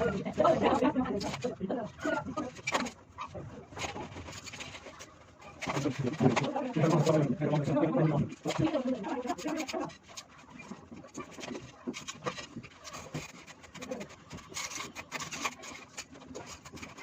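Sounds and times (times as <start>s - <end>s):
scraping: 0.0s - 17.0s.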